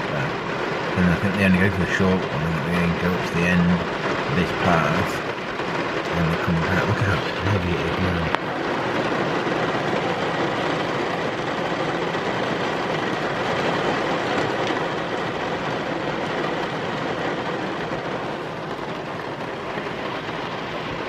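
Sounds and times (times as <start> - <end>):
heavy rain drumming on car roof: 0.0 - 21.0.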